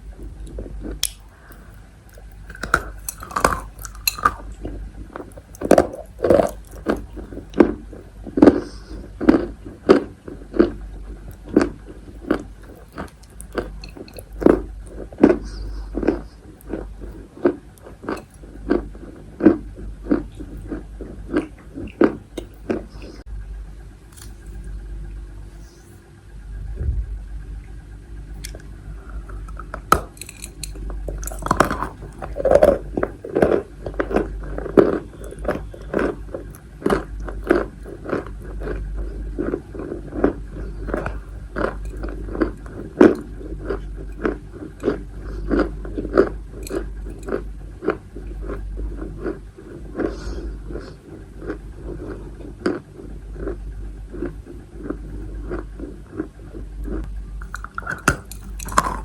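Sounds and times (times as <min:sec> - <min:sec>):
person chewing chalk crunches: 0:00.2 - 0:23.3, 0:28.4 - 0:59.0.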